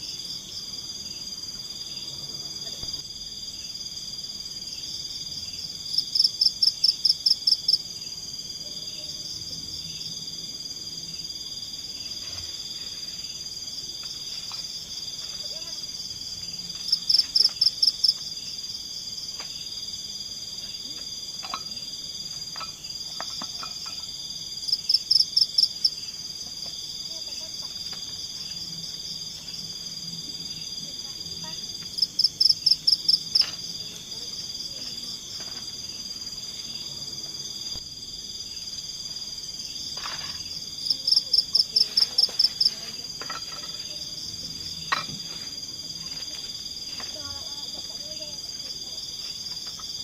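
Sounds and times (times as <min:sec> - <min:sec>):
crickets trilling: 0:00.0 - 0:50.0
sharp cricket chirps: 0:00.0 - 0:50.0.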